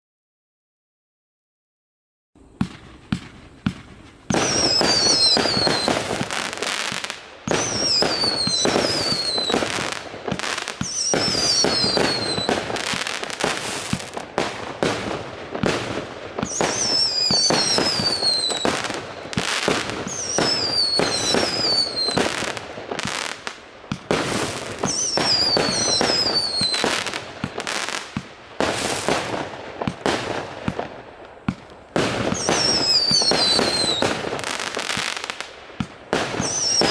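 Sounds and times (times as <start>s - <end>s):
fireworks falling whistles: 2.4s - 36.9s
fireworks shots and crackling: 2.4s - 36.9s.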